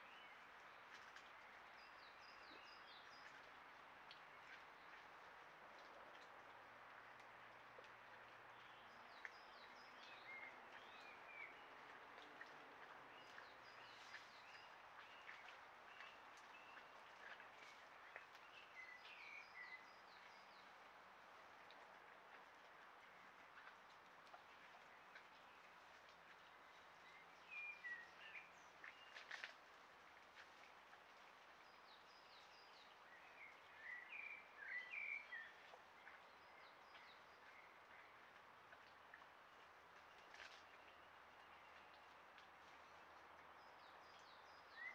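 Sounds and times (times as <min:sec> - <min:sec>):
faint songbird chirping: 0:00.0 - 0:05.1, 0:08.5 - 0:21.0, 0:21.7 - 0:44.9.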